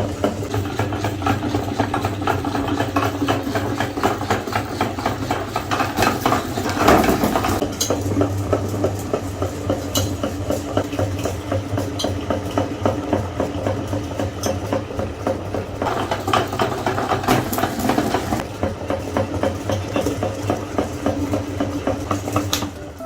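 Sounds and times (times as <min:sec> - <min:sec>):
meat grinder humming: 0:00.0 - 0:23.0.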